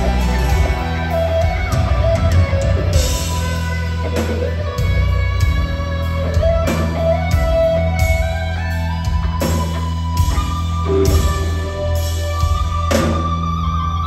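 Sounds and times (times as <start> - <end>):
electric guitar lead melody: 0.0 - 14.0
rock band bass and drums: 0.0 - 14.0.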